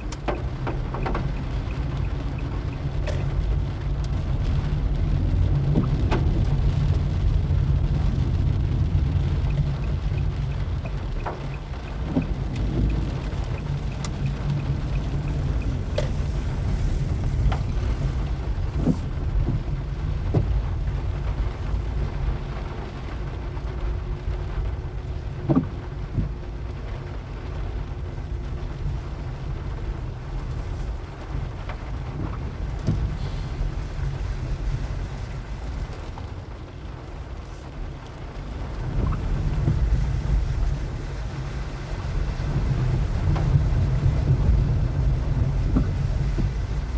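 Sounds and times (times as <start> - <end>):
car engine and tyres rumbling: 0.0 - 46.9
rain tapping: 0.0 - 46.9.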